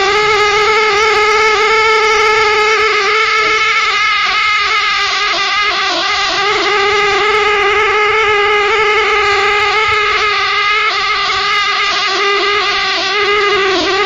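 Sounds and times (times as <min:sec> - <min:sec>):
continuous pitched drone: 0:00.0 - 0:14.0.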